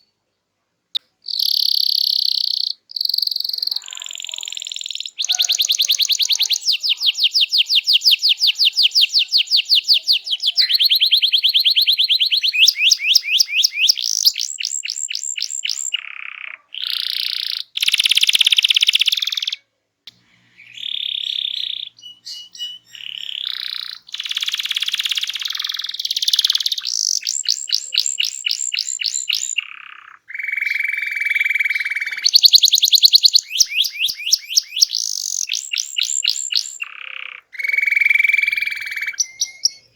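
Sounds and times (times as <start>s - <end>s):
canary singing trills: 1.0s - 39.9s.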